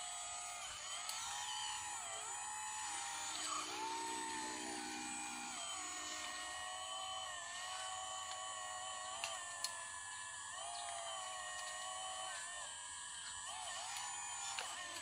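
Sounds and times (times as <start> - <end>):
hydraulic pump whining: 0.0 - 15.0.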